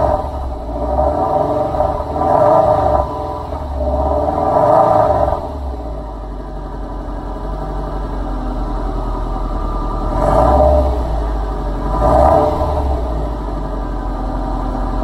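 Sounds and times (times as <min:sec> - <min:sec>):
car exhaust idling: 0:00.0 - 0:15.0.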